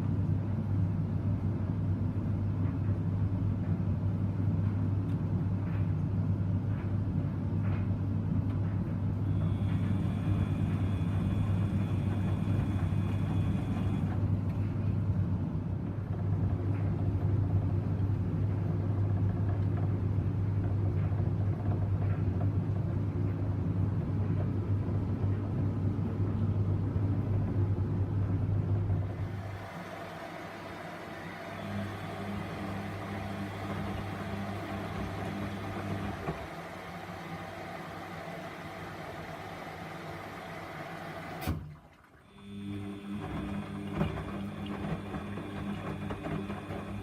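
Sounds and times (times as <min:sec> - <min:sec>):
washing machine drum hum: 0:00.0 - 0:47.0.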